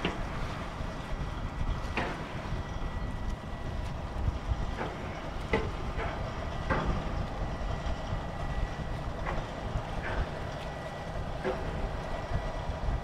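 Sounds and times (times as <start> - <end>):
faint constant whine: 0.0 - 13.0
low machinery rumble: 0.0 - 13.0.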